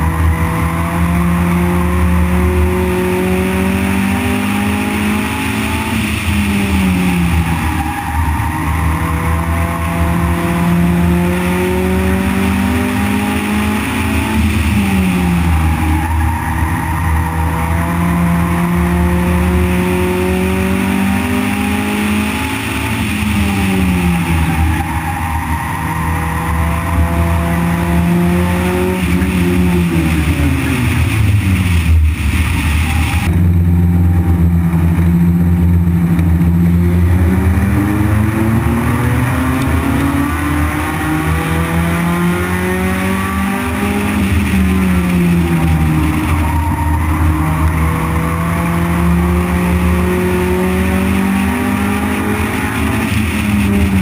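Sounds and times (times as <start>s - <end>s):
race car engine: 0.0s - 54.0s.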